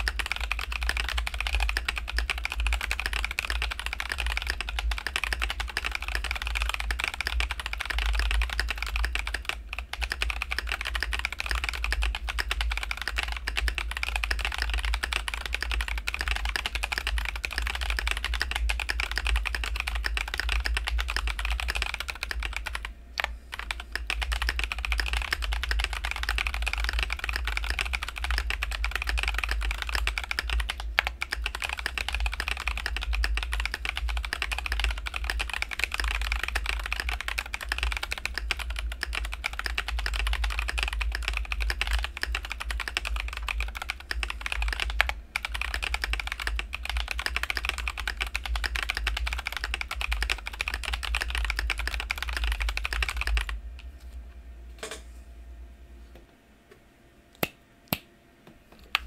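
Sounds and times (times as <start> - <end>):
fast keyboard typing clacks: 0.0 - 53.6.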